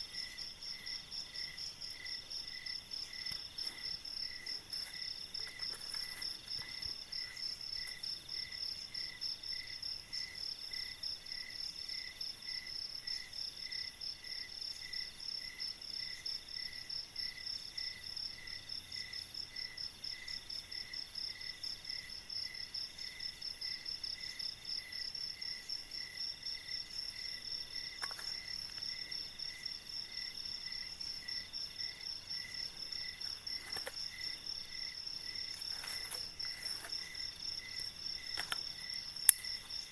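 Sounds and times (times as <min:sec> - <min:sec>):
insect chirping: 0:00.0 - 0:39.9
insects trilling: 0:00.0 - 0:39.9.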